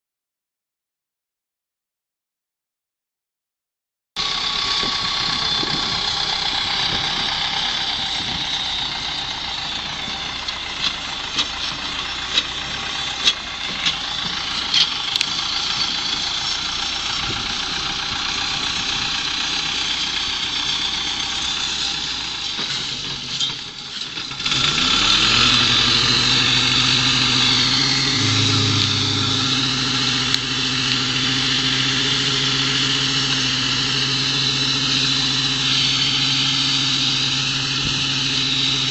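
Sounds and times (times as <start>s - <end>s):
tractor diesel engine running: 4.2s - 38.9s.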